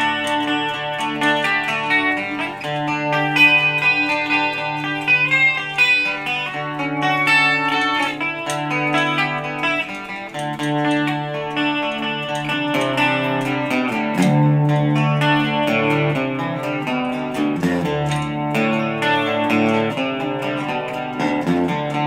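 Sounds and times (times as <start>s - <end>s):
electric guitar chords and notes: 0.0s - 22.0s.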